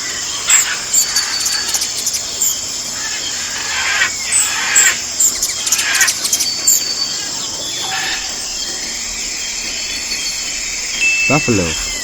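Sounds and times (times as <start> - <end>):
birds chirping: 0.0 - 12.0
steady hiss: 0.0 - 12.0.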